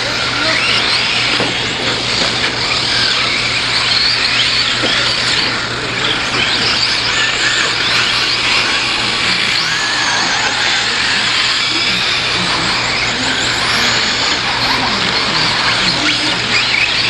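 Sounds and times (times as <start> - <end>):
radio-controlled truck motors whining: 0.0 - 17.0.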